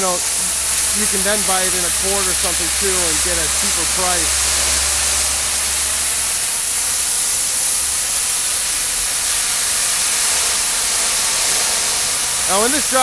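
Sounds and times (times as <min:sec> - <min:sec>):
pressure washer spraying hiss: 0:00.0 - 0:13.0.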